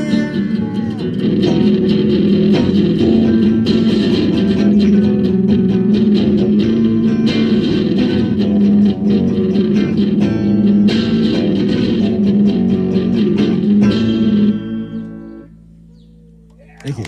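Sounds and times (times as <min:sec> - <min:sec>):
electric guitar: 0:00.0 - 0:15.8
bass guitar: 0:00.0 - 0:17.0.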